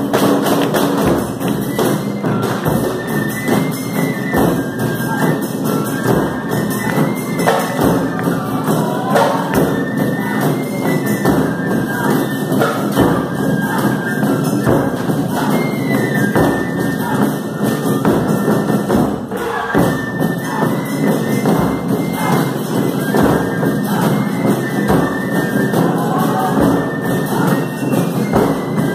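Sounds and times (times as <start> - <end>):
drum ensemble playing: 0.0 - 28.9.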